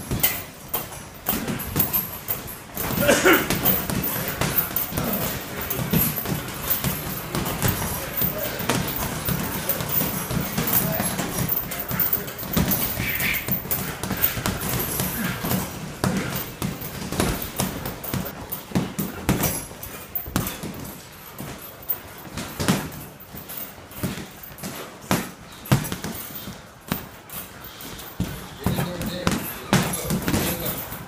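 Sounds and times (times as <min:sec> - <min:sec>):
gloves punching heavy bag: 0:00.0 - 0:31.0.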